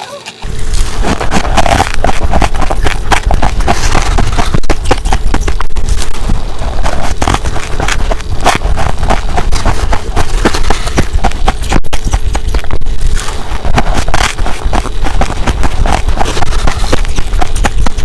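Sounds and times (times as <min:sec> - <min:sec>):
ice being crunched: 0:00.4 - 0:18.0
steady low rumble: 0:00.4 - 0:18.0.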